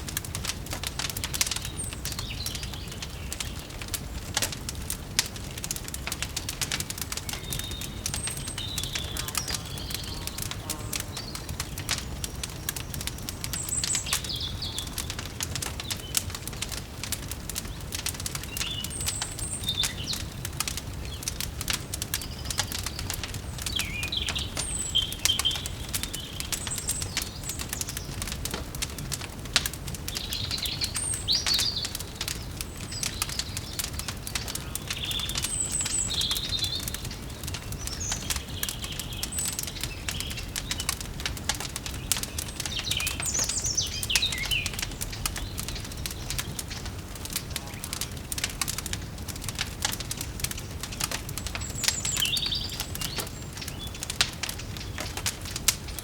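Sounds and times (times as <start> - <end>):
fire crackling and popping: 0.0 - 56.0
small birds chirping: 0.2 - 56.0.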